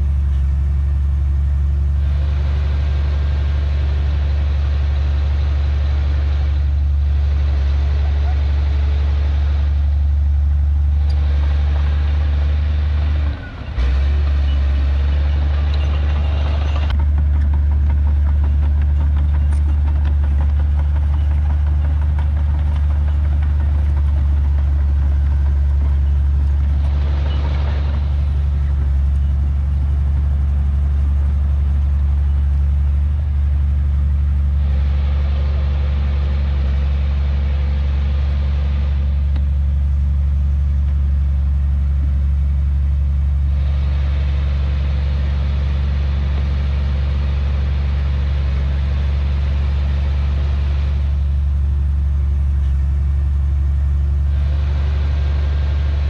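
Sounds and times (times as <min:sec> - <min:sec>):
diesel engine humming: 0:00.0 - 0:56.0
rough mechanical noise: 0:00.0 - 0:56.0.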